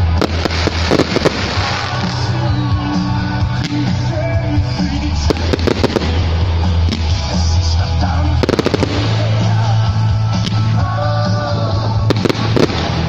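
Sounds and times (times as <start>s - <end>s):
firework bangs and crackles: 0.0s - 13.0s
music with steady bass line: 0.0s - 13.0s.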